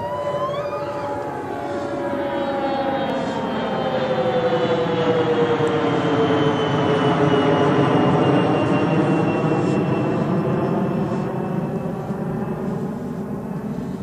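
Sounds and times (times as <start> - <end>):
jet engine whine: 0.0 - 14.0
jet plane passing overhead: 0.0 - 14.0.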